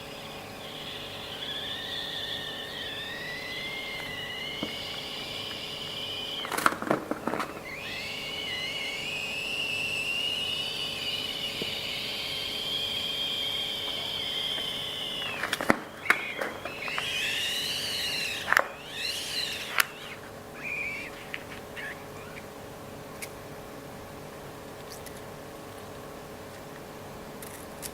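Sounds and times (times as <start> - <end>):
balloon squealing: 0.0 - 22.5
sharp snaps: 0.0 - 22.5.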